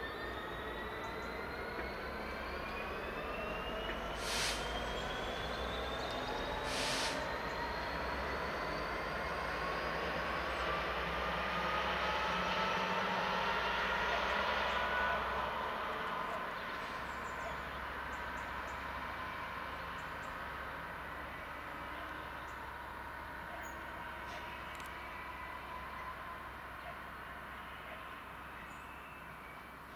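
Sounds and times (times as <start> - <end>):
diesel locomotive engine pulling away: 0.0 - 29.9.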